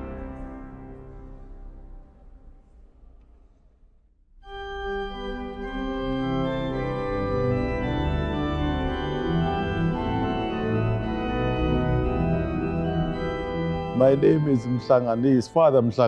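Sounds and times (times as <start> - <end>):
pipe organ playing chords: 0.0 - 2.8, 4.5 - 16.0.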